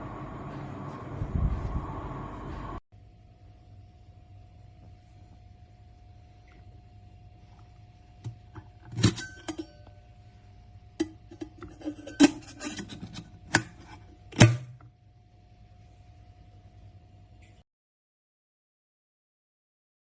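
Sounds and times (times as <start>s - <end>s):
faint steady hum: 0.0s - 17.6s.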